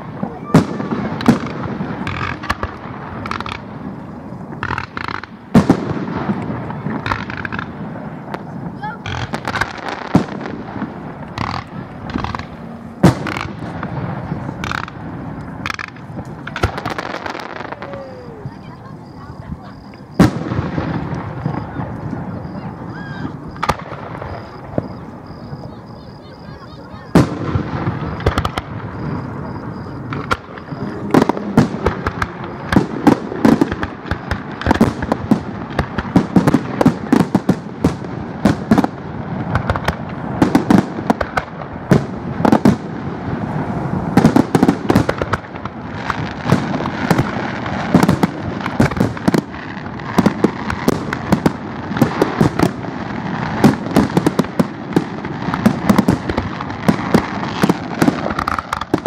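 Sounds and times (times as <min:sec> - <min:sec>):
continuous rumble: 0:00.0 - 0:47.3
fireworks bangs: 0:00.0 - 0:59.0.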